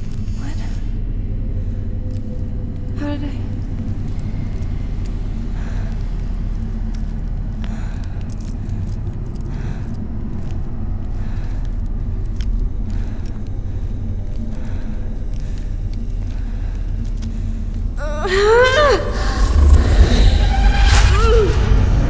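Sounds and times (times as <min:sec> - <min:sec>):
low rumbling drone: 0:00.0 - 0:22.0.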